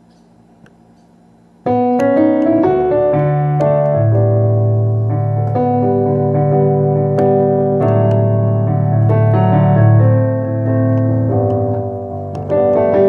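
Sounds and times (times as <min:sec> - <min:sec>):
piano playing chords: 0:01.6 - 0:13.0.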